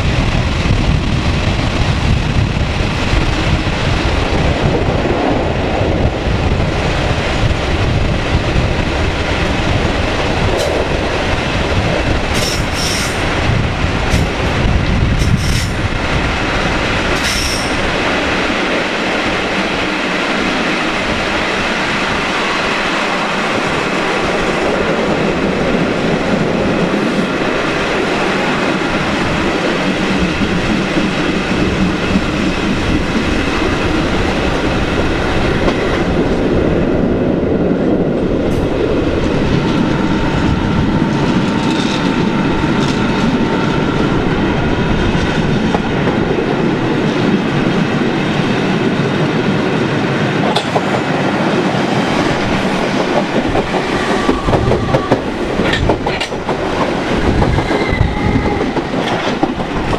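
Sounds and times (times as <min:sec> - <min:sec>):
train wheels rumbling on rails: 0:00.0 - 0:59.9
wind noise: 0:00.0 - 0:59.9.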